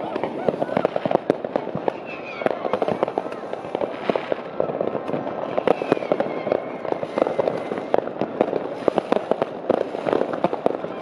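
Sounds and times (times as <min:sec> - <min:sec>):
fireworks banging and crackling: 0:00.0 - 0:11.0
firework whistle: 0:00.1 - 0:11.0.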